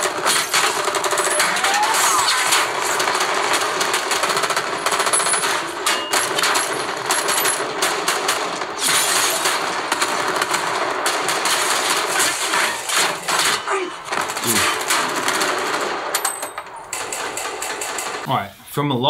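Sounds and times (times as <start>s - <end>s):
rapid automatic gunfire: 0.0s - 18.3s.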